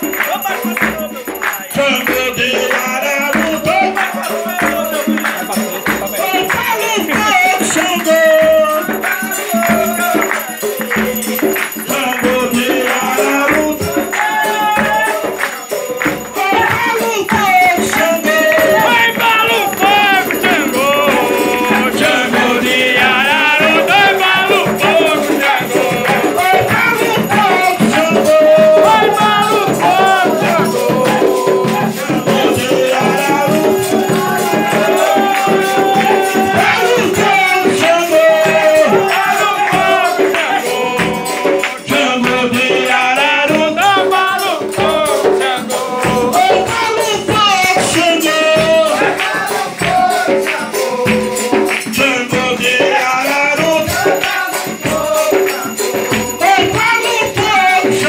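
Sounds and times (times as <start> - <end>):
group of voices singing: 0.0 - 58.0
hand-clapping: 0.0 - 58.0
rhythmic percussion: 0.0 - 58.0.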